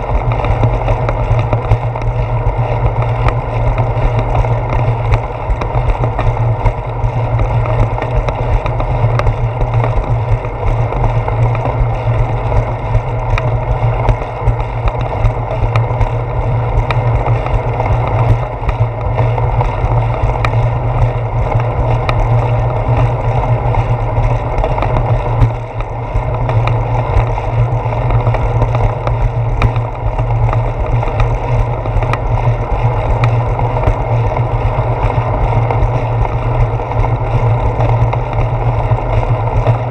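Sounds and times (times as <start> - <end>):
bike vibration clicks and knocks: 0.0 - 39.9
wind and ride rumble: 0.0 - 39.9.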